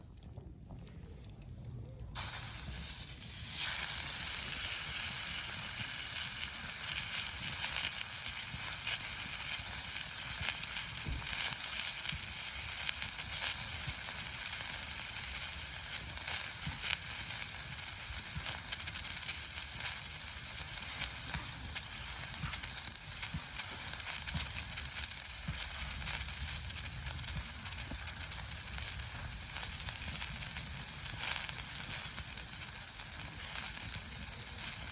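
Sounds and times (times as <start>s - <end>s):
steak sizzling on a griddle: 2.2s - 34.9s.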